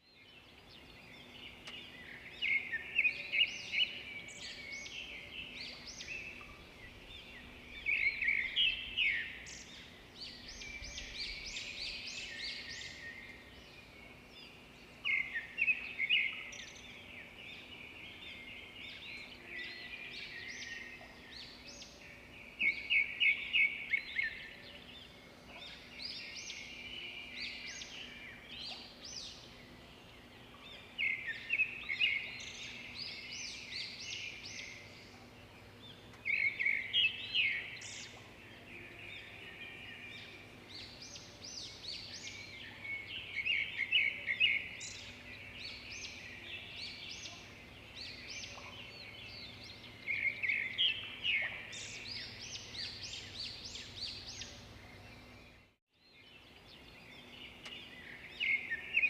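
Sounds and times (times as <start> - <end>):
faint steady background noise: 0.0 - 59.0
songbirds chirping: 0.0 - 59.0.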